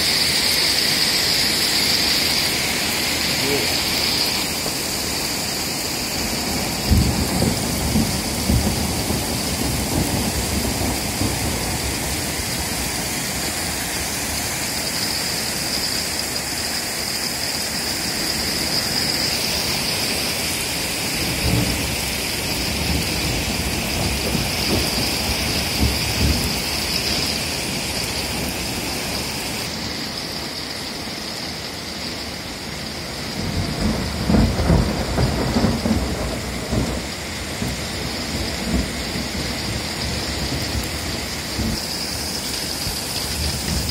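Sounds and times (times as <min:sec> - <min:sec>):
heavy rain and hail: 0:00.0 - 0:43.9.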